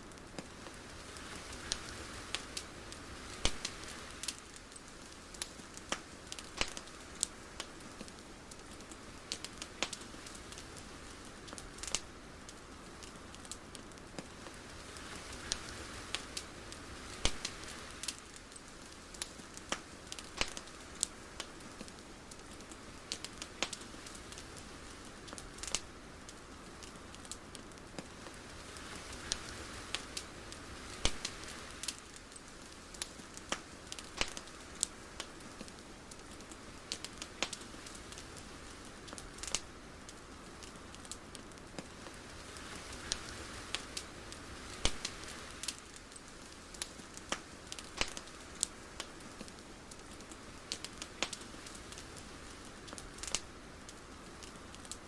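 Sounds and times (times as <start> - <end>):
crackles and snaps: 0.0 - 55.0
soft steady hiss: 0.0 - 55.0.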